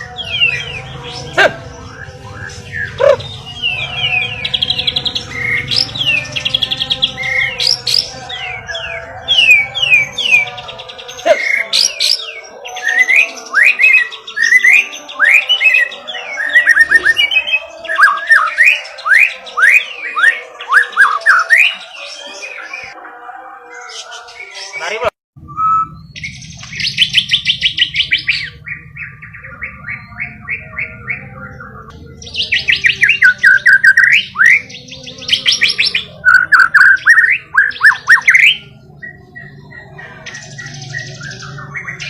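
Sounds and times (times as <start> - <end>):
songbird trills and whistles: 0.0 - 23.0, 25.4 - 42.0.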